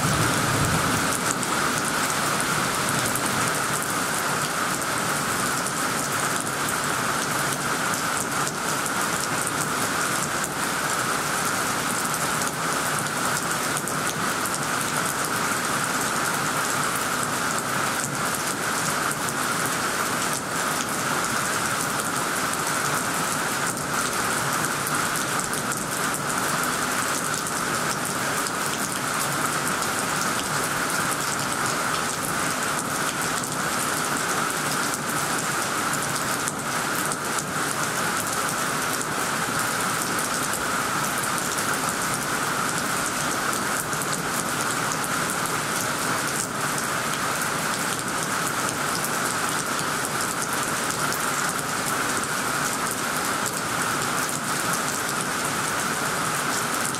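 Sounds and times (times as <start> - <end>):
heavy rain hiss: 0.0 - 56.9.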